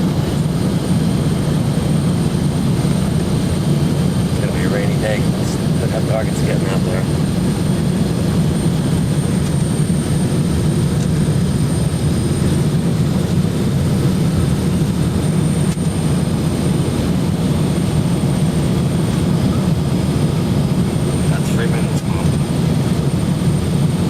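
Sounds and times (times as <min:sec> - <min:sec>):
faint high engine whine: 0:00.0 - 0:24.0
jet engine roar in cabin: 0:00.0 - 0:24.0.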